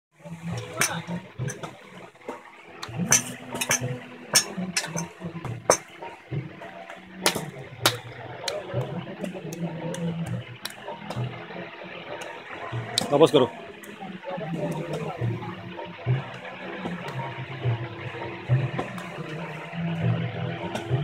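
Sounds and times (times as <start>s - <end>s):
low murmur: 0.2s - 21.0s.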